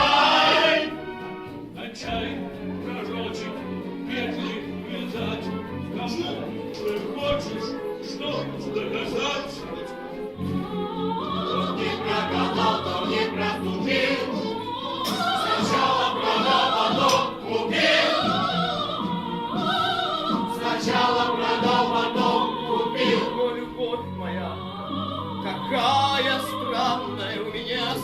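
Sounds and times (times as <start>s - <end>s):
operatic singing with choir and orchestra: 0.0s - 28.0s.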